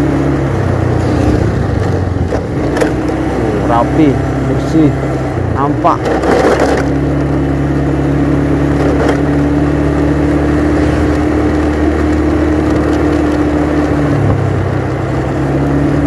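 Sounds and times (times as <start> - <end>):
motorcycle engine cruising: 0.0 - 16.0
road and wind noise: 0.0 - 16.0.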